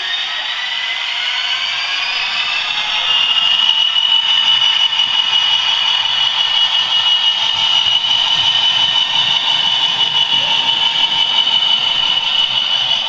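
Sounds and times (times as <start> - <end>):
tinny diesel engine sound from speaker: 0.0 - 13.0.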